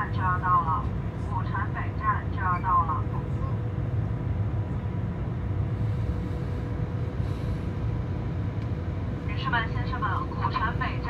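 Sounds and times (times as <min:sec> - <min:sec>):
faint steady hum: 0:00.0 - 0:11.0
train rumble inside cabin: 0:00.0 - 0:11.0.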